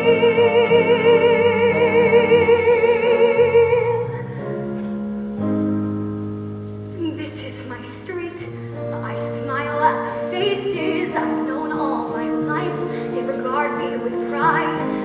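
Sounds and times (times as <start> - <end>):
musical accompaniment with sustained chords: 0.0 - 15.0.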